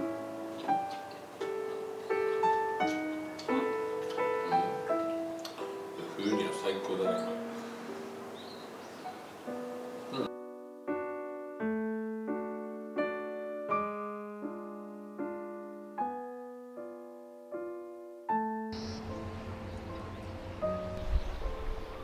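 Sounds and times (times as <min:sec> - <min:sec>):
faint background hiss: 0:00.0 - 0:22.0
slow piano chords: 0:00.0 - 0:22.0.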